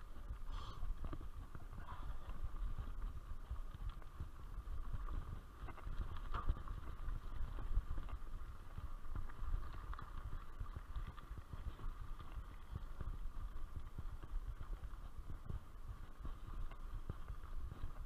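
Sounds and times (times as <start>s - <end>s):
bike rattling over dirt track: 0.0s - 18.0s.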